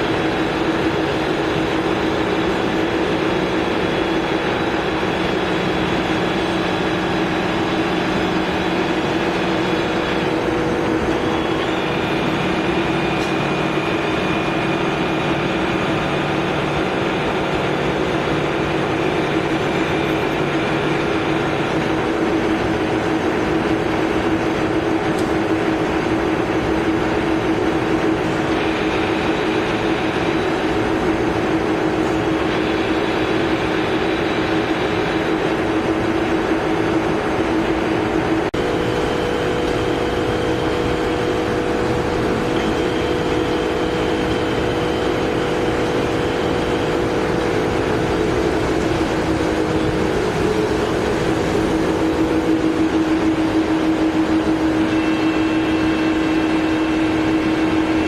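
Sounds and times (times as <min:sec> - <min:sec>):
lathe running with gear whine: 0:00.0 - 0:58.0.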